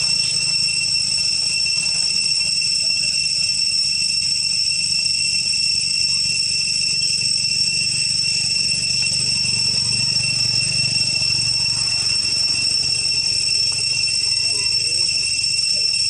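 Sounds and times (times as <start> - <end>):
insect chorus droning: 0.0 - 16.0.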